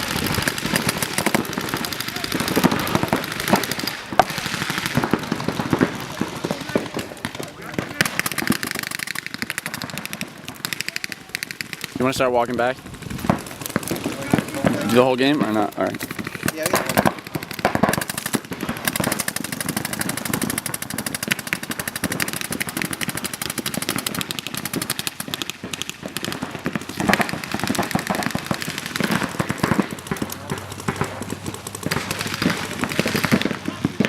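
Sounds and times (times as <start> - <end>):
paintball markers firing: 0.0 - 34.0.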